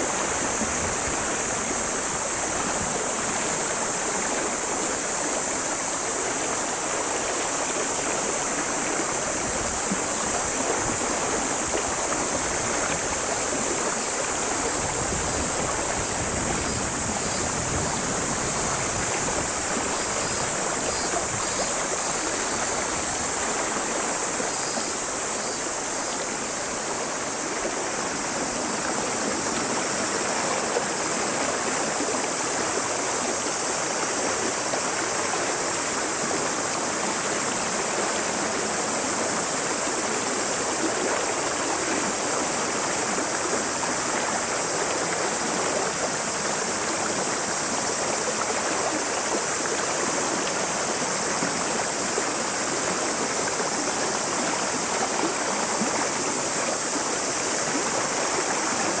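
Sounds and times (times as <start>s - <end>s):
cicadas droning: 0.0s - 59.0s
river rushing over rocks: 0.0s - 59.0s.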